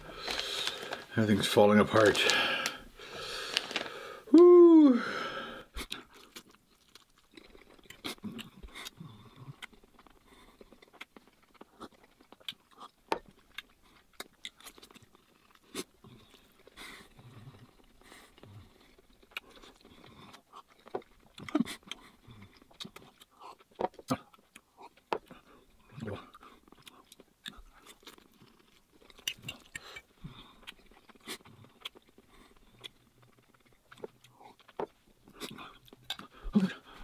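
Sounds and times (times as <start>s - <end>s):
close-miked chewing noodles: 0.0s - 1.2s, 5.4s - 37.0s.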